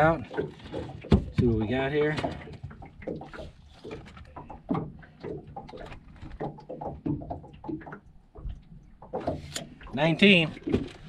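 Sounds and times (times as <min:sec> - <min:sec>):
light knocks and rustles: 0:00.3 - 0:09.8.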